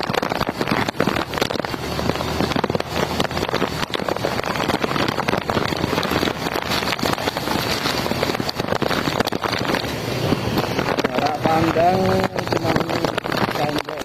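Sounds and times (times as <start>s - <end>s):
heavy rain: 0.0s - 14.0s
strong wind: 0.0s - 14.0s
wind buffeting microphone: 0.0s - 14.0s.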